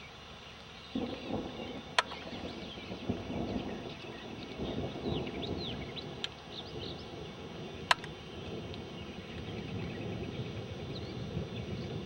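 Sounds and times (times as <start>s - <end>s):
river water running: 0.0s - 11.4s
small birds chirping: 0.0s - 12.0s.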